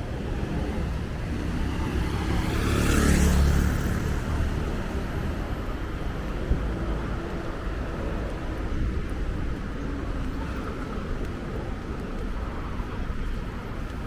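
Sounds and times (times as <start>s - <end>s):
road noise: 0.0s - 14.0s
vehicle rumbling in motion: 0.0s - 14.0s.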